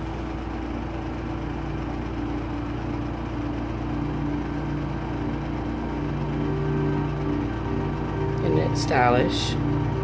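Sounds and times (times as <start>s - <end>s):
held synthesizer chords: 0.0s - 10.0s
steady low hum: 0.0s - 10.0s.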